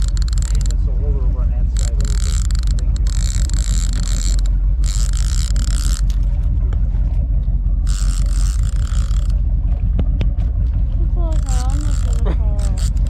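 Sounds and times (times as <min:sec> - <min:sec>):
high mechanical whirring: 0:00.0 - 0:06.9, 0:07.7 - 0:13.0
boat engine rumbling: 0:00.0 - 0:13.0.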